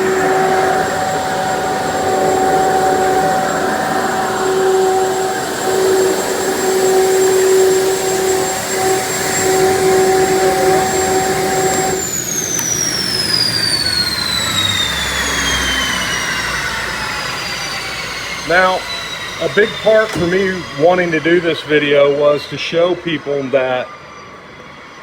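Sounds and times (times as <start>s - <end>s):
gas turbine engine whine: 0.0s - 25.0s.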